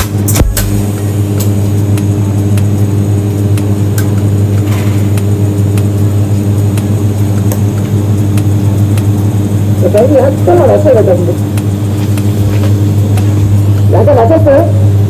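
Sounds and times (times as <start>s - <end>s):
welding arc humming and hissing: 0.0s - 15.0s.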